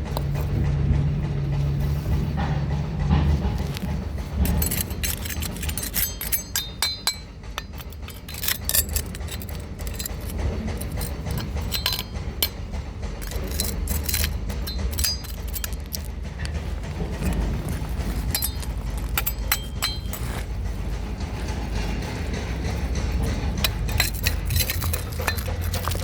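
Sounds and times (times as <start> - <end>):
steady low rumble: 0.0 - 26.0
hard objects clinking: 3.6 - 26.0.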